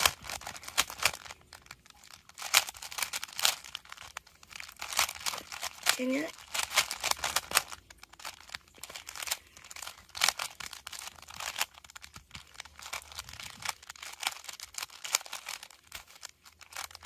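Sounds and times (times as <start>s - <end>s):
puzzle cube plastic clicks: 0.0s - 17.0s.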